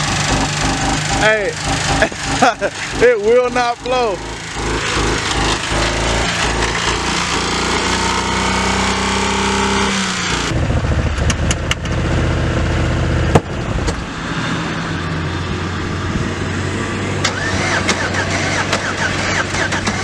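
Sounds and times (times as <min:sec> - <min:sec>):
car engine revving hard: 0:00.0 - 0:11.0, 0:13.6 - 0:20.0.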